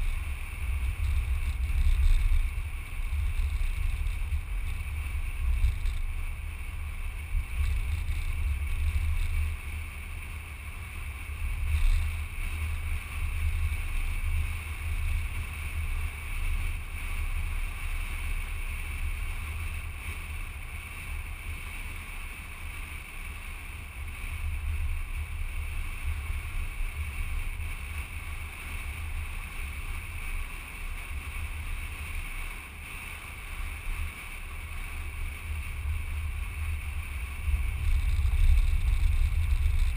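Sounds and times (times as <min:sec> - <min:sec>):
steady hiss: 0:00.0 - 0:39.9
wind and road noise rumble: 0:00.0 - 0:39.9.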